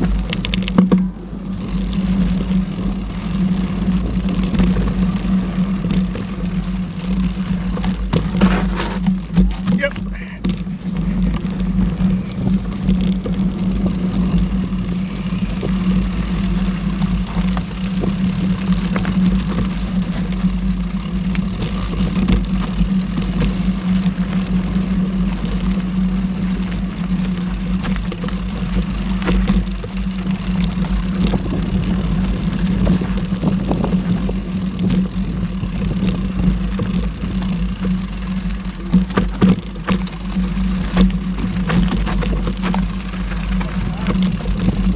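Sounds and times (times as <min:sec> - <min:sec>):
low hum: 0:00.0 - 0:44.9
tyres rolling on trail: 0:00.0 - 0:44.9
wind rumbling on microphone: 0:00.0 - 0:44.9.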